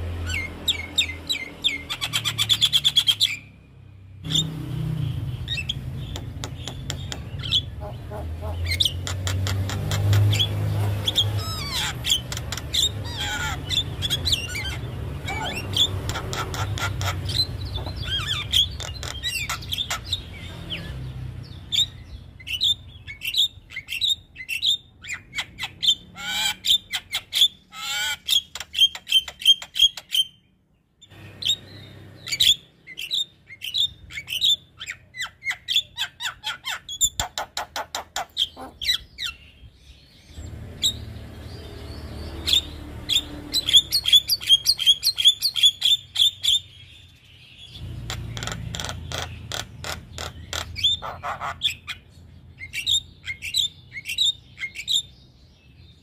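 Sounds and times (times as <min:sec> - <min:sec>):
myna bird singing: 0:00.0 - 0:56.0.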